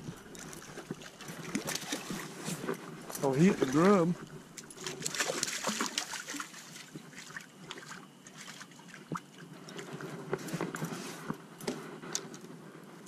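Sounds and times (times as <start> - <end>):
water sloshing and trickling: 0.0 - 12.5.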